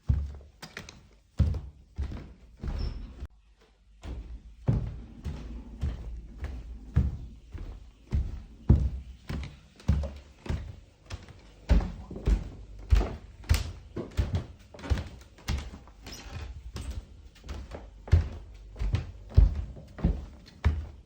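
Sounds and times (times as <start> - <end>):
footsteps with dull thuds: 0.0 - 21.0.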